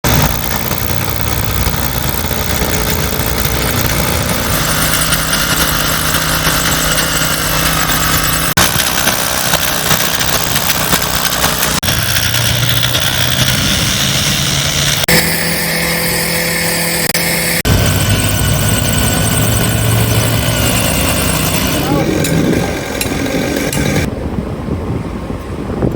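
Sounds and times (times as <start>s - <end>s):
engine idling: 0.0s - 24.1s.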